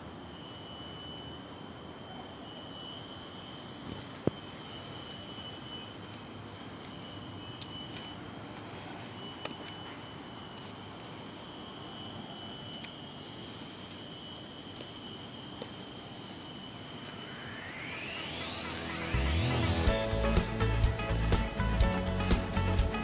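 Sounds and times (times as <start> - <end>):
insects whining: 0.0 - 23.0.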